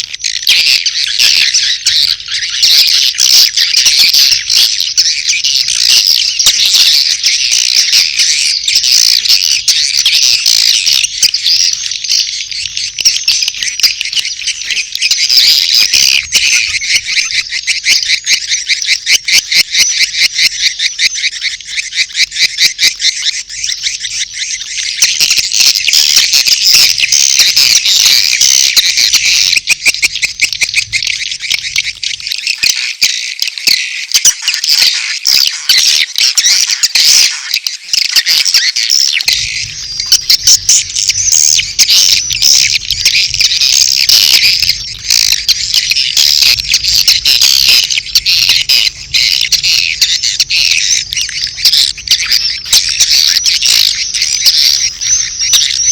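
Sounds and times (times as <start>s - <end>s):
fast rhythmic clicking: 0.0s - 55.9s
swiftlets twittering chirps: 0.0s - 55.9s.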